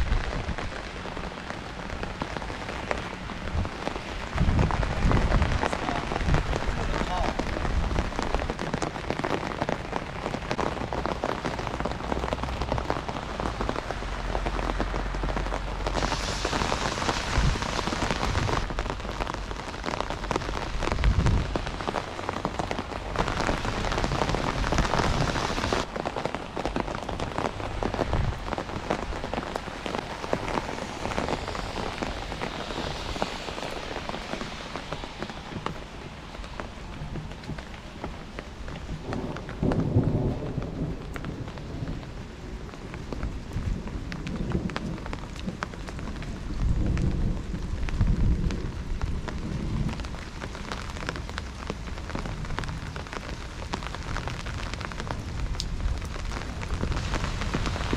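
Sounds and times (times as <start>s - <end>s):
heavy rain on street: 0.0s - 57.9s.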